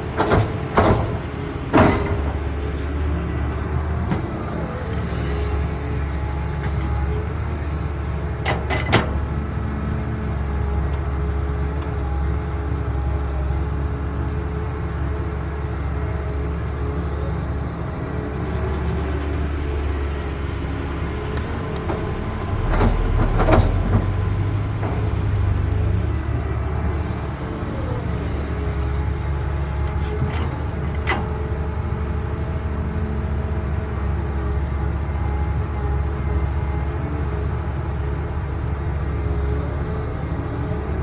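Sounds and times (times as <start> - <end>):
diesel construction machine engine: 0.0 - 41.0.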